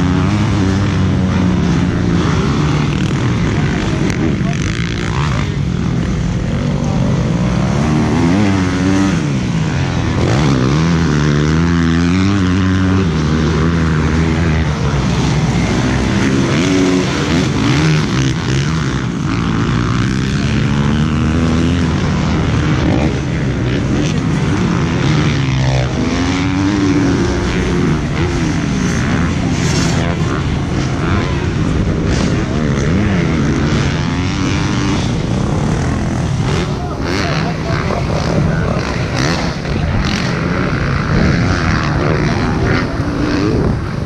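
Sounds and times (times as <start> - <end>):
dirt bike engines revving: 0.0 - 44.0
steady rushing noise: 0.0 - 44.0.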